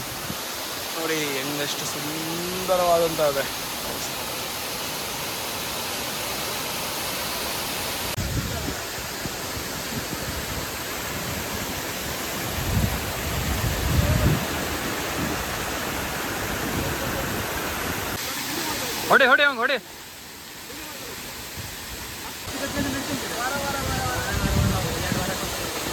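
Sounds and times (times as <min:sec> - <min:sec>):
waterfall rushing onto rocks: 0:00.0 - 0:25.9.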